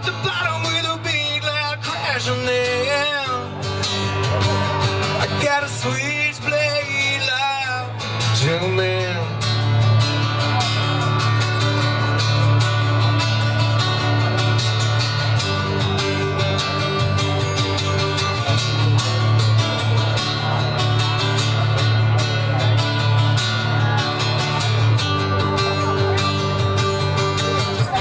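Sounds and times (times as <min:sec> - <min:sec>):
live rock guitar: 0:00.0 - 0:28.0.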